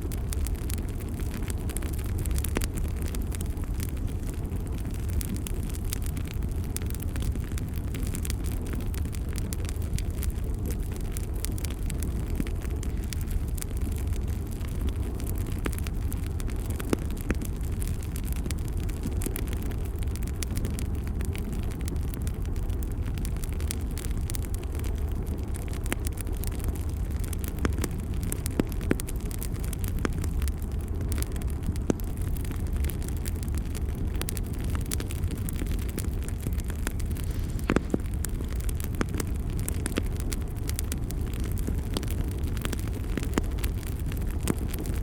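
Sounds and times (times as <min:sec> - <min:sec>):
bonfire crackling and popping: 0:00.0 - 0:45.0
steady low rumble: 0:00.0 - 0:45.0.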